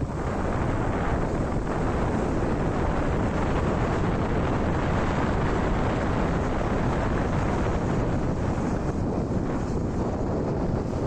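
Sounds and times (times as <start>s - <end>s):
vehicle road noise: 0.0s - 11.0s
wind on microphone: 0.0s - 11.0s.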